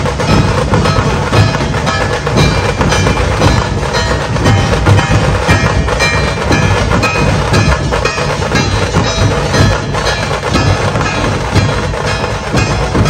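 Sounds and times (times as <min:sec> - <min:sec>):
crisp snare drum strokes: 0:00.0 - 0:13.0
deep booming barrel drums: 0:00.0 - 0:13.0.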